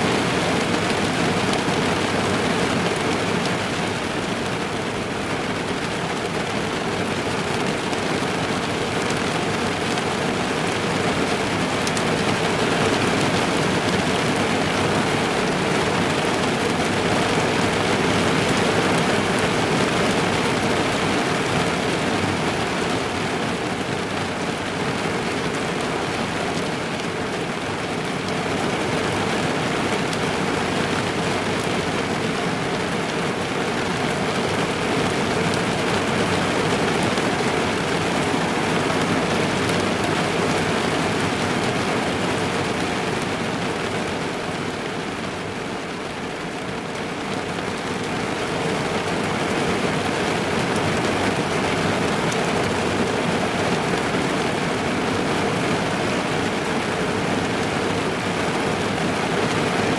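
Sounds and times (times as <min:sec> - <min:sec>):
rain on car roof: 0:00.0 - 0:59.9.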